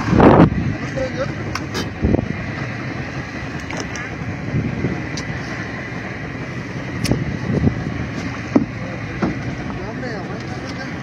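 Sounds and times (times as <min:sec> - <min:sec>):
low boat noise: 0:00.0 - 0:11.0.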